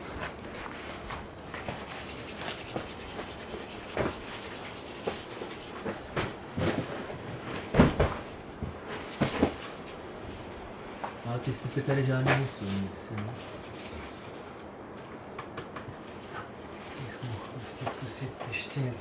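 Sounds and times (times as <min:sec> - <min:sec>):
scuffs rustles and knocks of people: 0:00.0 - 0:04.4, 0:05.0 - 0:19.0
steady hiss: 0:00.0 - 0:19.0.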